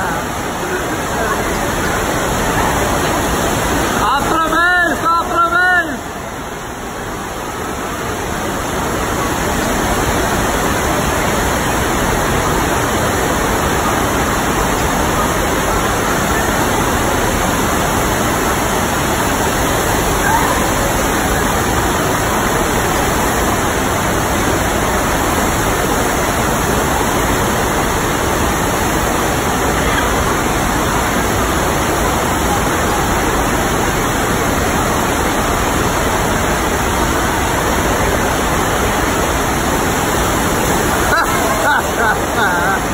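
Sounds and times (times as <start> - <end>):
water rushing up a ramp: 0.0 - 42.9.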